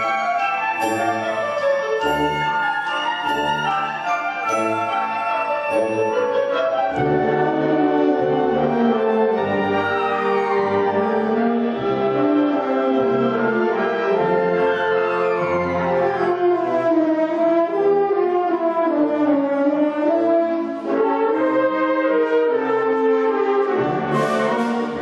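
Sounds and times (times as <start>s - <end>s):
symphonic wind band playing: 0.0s - 25.0s.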